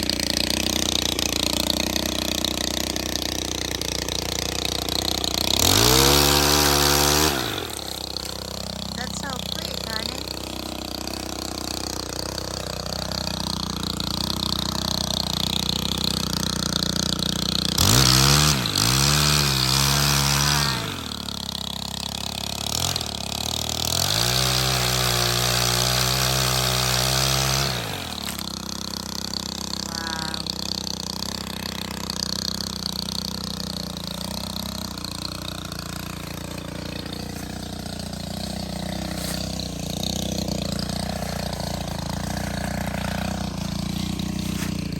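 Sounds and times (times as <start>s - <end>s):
small engine idling and revving: 0.0s - 44.9s.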